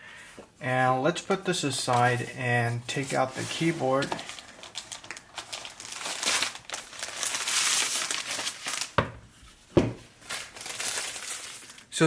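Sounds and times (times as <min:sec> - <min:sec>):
packaging crinkling and rustling: 0:01.2 - 0:09.0, 0:09.9 - 0:12.0.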